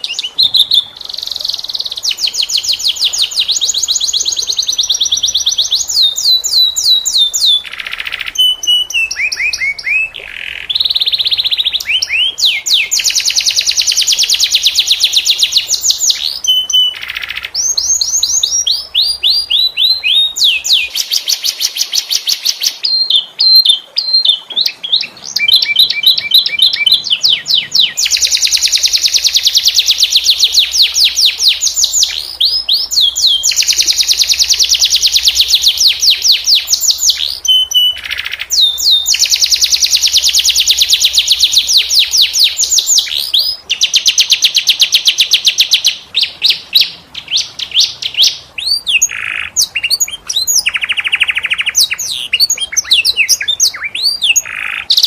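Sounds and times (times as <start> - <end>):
canary singing in rolling trills: 0.0 - 55.0.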